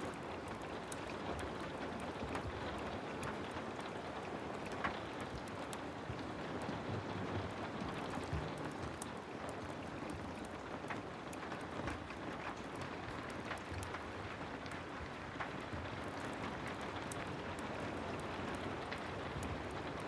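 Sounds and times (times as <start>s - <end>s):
heavy rain falling: 0.0s - 20.0s
wood fire crackling: 0.0s - 20.0s.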